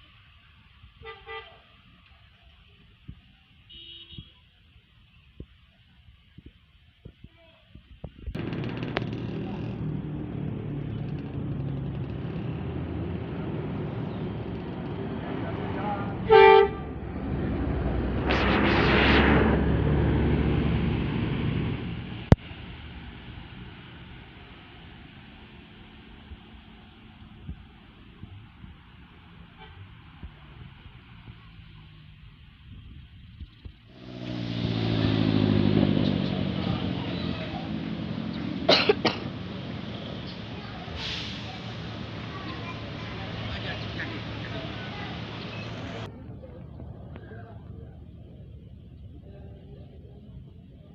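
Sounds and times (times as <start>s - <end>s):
bus engine running: 8.0s - 50.9s.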